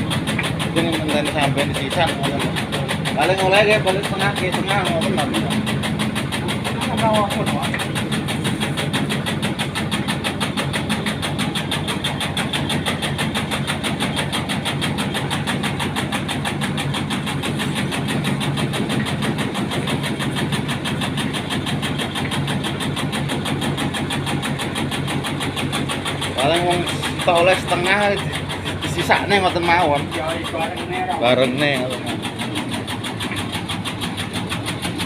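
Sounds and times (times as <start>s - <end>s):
cutting machine engine pulsing: 0.0s - 35.0s.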